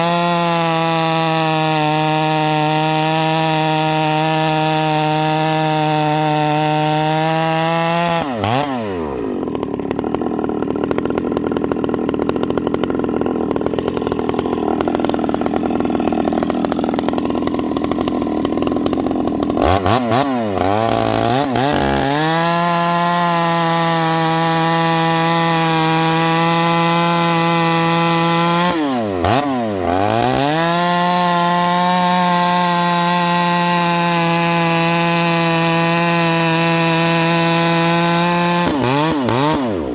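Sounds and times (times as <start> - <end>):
chainsaw cutting wood: 0.0 - 39.9
chainsaw revving: 0.0 - 39.9.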